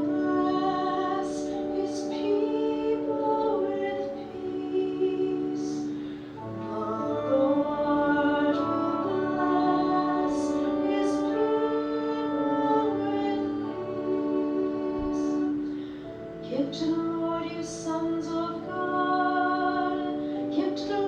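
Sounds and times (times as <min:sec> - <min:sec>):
person singing slow long notes: 0:00.0 - 0:21.0
sustained accompaniment: 0:00.0 - 0:21.0.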